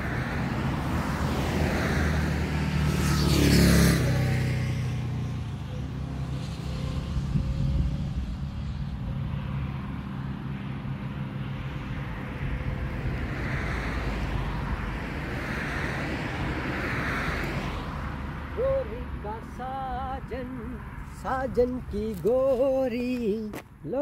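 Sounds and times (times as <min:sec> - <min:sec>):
wind rushing over microphone: 0:00.0 - 0:23.5.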